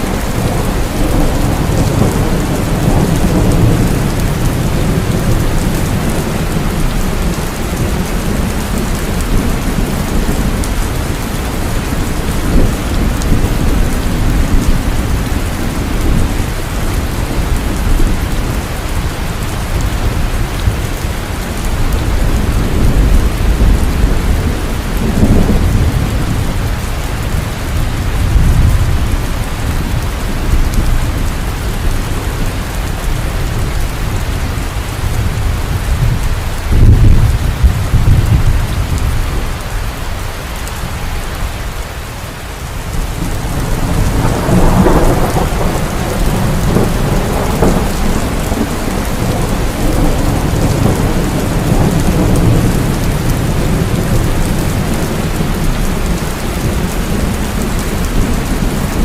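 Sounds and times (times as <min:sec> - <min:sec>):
deep rolling thunder: 0:00.0 - 0:40.8, 0:42.8 - 0:59.0
heavy rain falling: 0:00.0 - 0:59.0.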